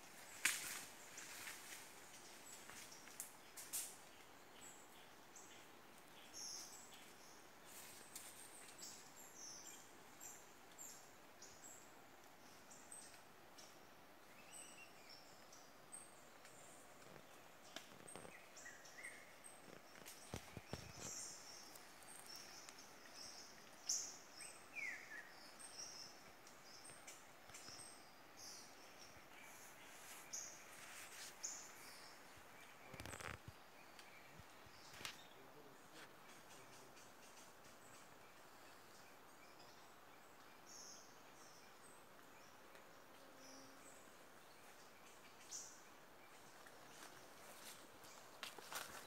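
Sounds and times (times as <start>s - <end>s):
faint forest ambience: 0.0s - 49.0s
soft background hiss: 0.0s - 49.0s.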